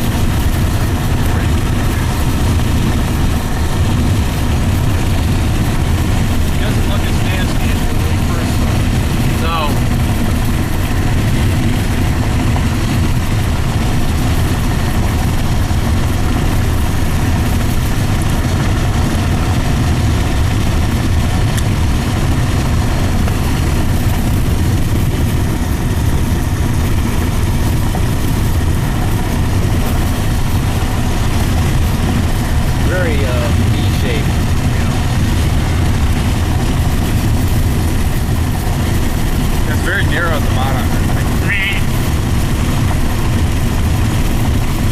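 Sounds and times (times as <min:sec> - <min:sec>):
car engine and tyre noise: 0:00.0 - 0:44.9
road and wind noise: 0:00.0 - 0:44.9.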